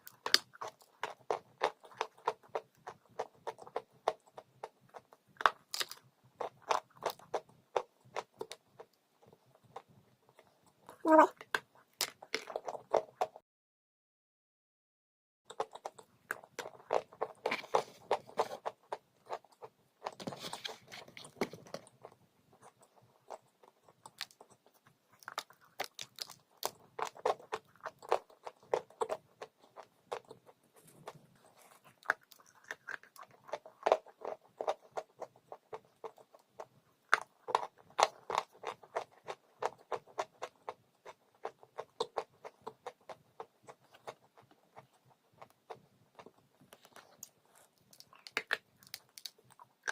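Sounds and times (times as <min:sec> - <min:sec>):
person chewing crunchy chalk: 0:00.0 - 0:13.4, 0:15.5 - 0:49.9.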